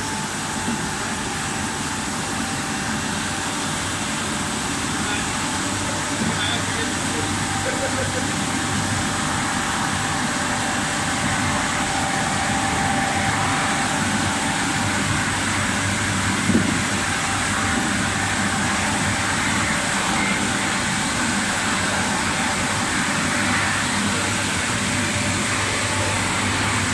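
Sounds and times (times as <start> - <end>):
washing machine hum: 0.0 - 26.9.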